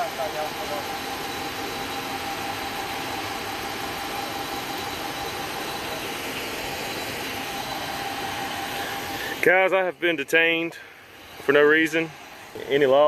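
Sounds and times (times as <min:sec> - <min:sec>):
car engine idling: 0:00.0 - 0:13.0
thin whine: 0:00.0 - 0:13.0.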